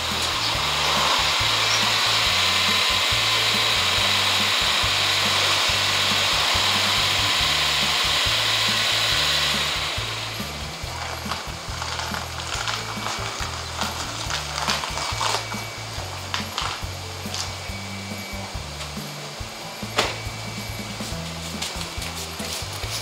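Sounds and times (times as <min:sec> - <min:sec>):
loud steady hiss: 0:00.0 - 0:23.0
music with stepping bass line: 0:00.0 - 0:23.0.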